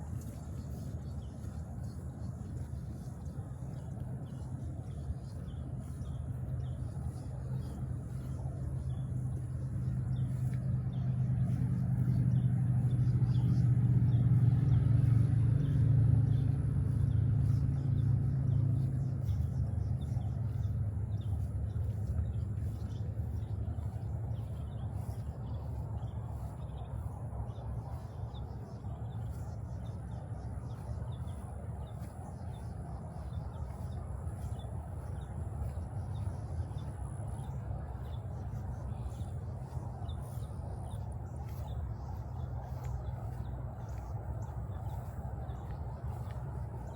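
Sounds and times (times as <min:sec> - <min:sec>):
low engine rumble: 0:00.0 - 0:46.9.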